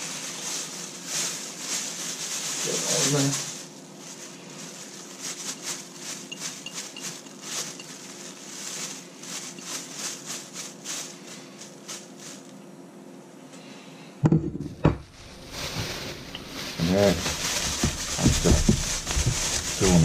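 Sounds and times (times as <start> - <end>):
plastic bag crinkling: 0.0 - 12.6, 15.1 - 20.0.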